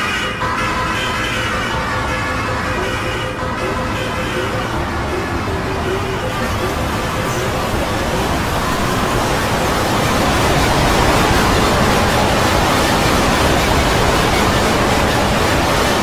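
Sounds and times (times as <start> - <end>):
layered wall of noise: 0.0 - 16.0.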